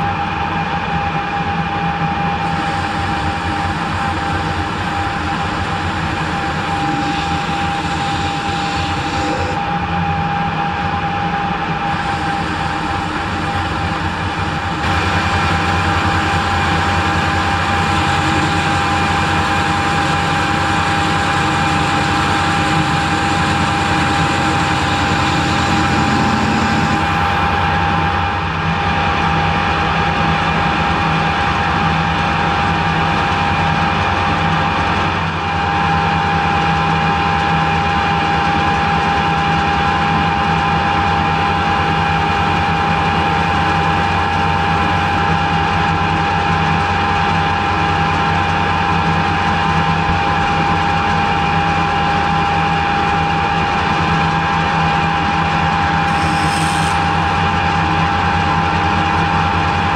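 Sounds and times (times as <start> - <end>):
metal lathe humming and whining: 0.0 - 59.9.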